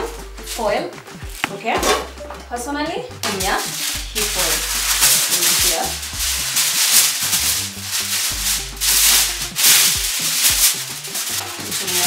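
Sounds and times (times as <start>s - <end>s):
aluminium foil crinkling: 0.4s - 1.7s, 3.2s - 12.0s.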